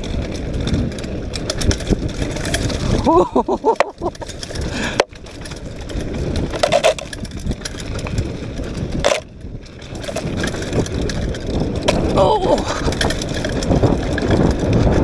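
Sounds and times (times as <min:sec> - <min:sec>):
bike rattling: 0:00.0 - 0:15.0
tyres on loose dirt and leaves: 0:00.0 - 0:15.0.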